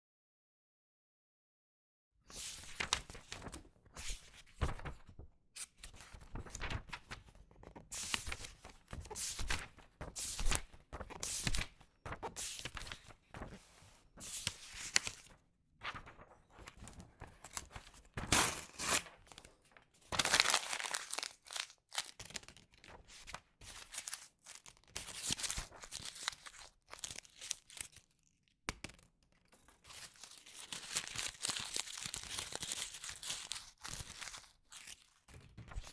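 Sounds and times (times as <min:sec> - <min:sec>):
paper rustling and crumpling: 0:02.3 - 0:28.0, 0:29.6 - 0:35.9.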